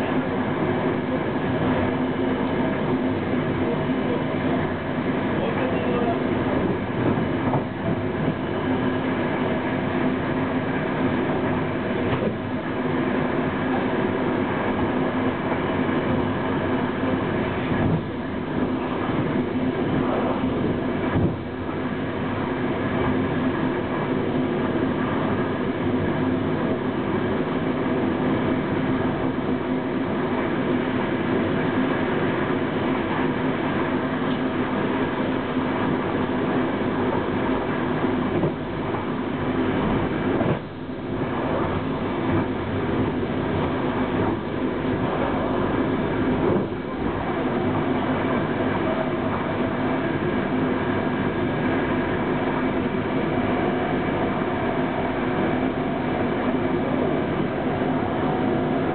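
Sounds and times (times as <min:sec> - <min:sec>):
low steady hum: 0:00.0 - 0:58.9
train wheels rumbling on rail: 0:00.0 - 0:58.9.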